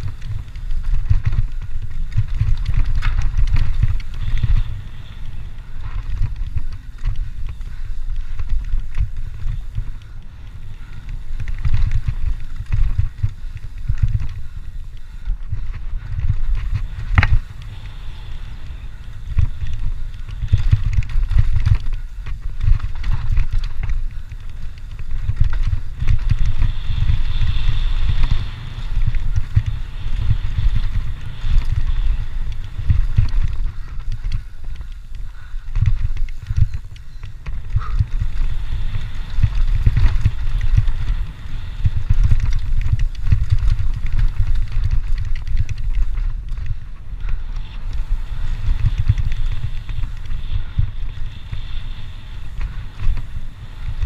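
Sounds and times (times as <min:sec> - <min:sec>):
bike rattling over rough ground: 0:00.0 - 0:54.0
tyre noise on dirt: 0:00.0 - 0:54.0
wind buffeting microphone: 0:00.0 - 0:54.0.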